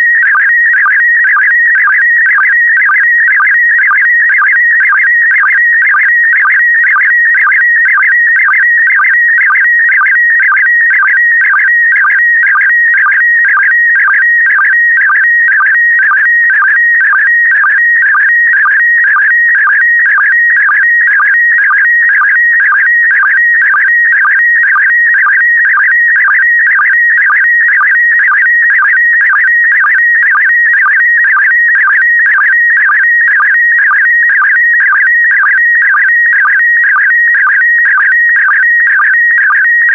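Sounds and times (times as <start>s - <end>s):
warbling sstv signal tone: 0.0s - 39.9s.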